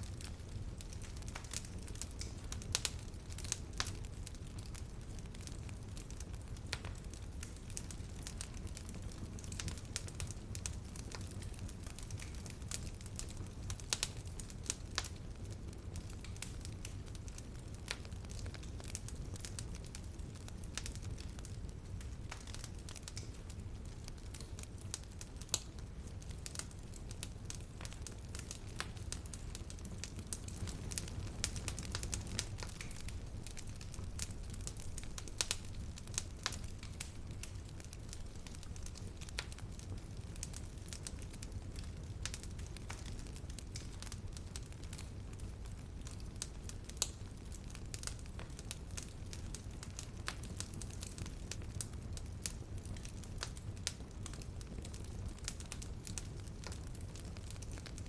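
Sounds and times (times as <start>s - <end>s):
fireplace fire crackling: 0.0s - 58.0s
low rumble of flames: 0.0s - 58.0s.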